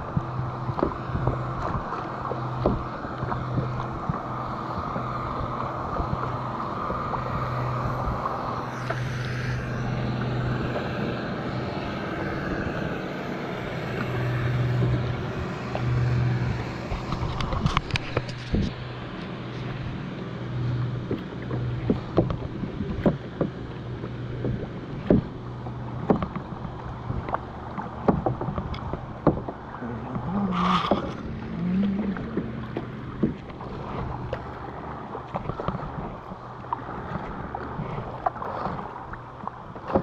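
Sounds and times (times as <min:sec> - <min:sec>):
kayak paddle splashing: 0:00.0 - 0:40.0
low hum: 0:00.0 - 0:40.0
water washing against hull: 0:00.0 - 0:40.0.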